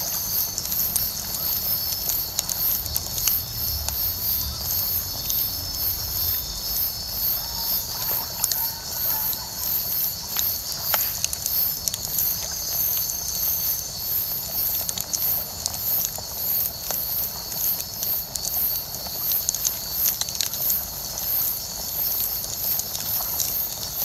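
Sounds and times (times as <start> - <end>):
bonfire crackling and popping: 0.0 - 24.0
night insects chorus: 0.0 - 24.0.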